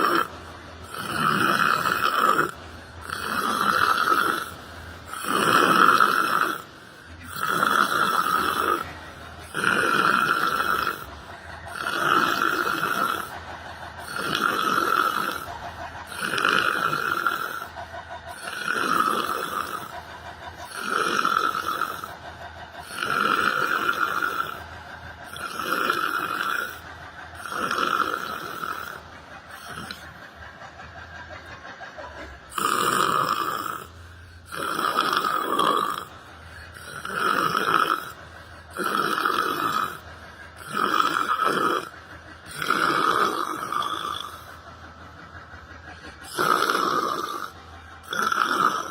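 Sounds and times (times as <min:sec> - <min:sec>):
person snoring: 0:00.0 - 0:20.0, 0:20.6 - 0:22.2, 0:22.8 - 0:24.6, 0:25.2 - 0:30.1, 0:32.5 - 0:44.5, 0:46.2 - 0:48.9.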